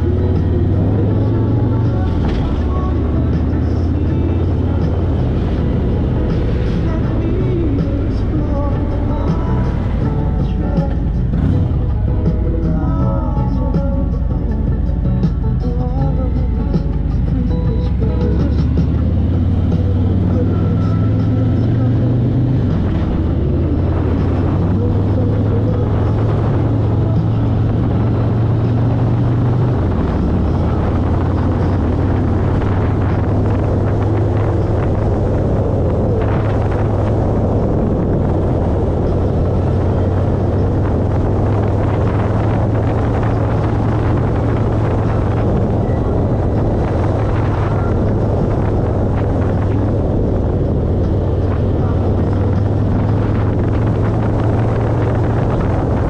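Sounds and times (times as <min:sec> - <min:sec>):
motorcycle engine drone: 0:00.0 - 0:56.0
wind noise on microphone: 0:00.0 - 0:56.0.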